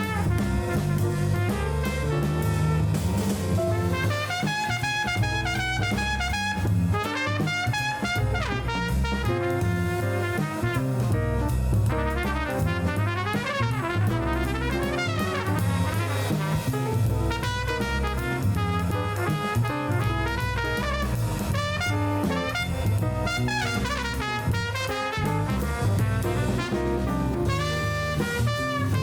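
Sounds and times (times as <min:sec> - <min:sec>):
upbeat jazz with brass and drums: 0:00.0 - 0:29.0.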